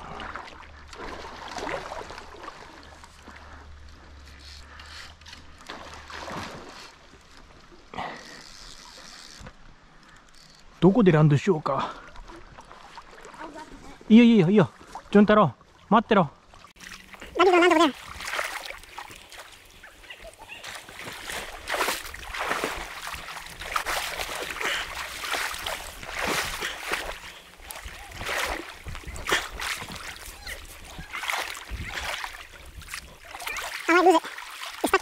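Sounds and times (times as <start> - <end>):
river water splashing: 0.0 - 35.0.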